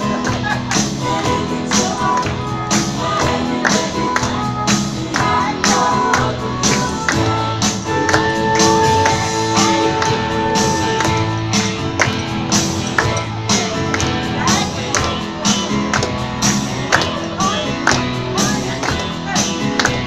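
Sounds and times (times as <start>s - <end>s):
upbeat dance music: 0.0s - 20.0s.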